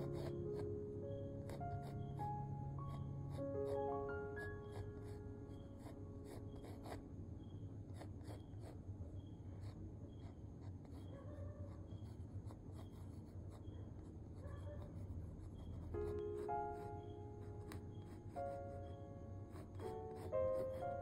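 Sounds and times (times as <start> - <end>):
pencil scratching on paper: 0.0 - 0.8, 1.4 - 7.0, 7.8 - 21.0
faint low hum: 0.0 - 21.0.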